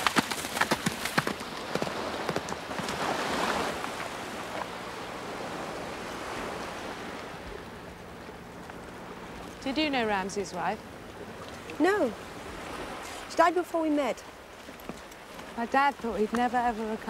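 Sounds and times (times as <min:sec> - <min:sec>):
hooves splashing in water: 0:00.0 - 0:17.0.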